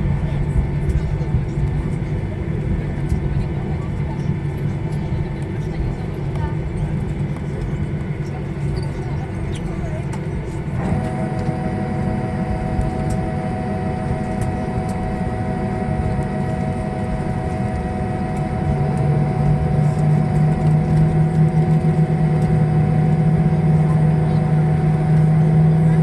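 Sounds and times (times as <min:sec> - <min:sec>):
jet engine hum in cabin: 0:00.0 - 0:26.0.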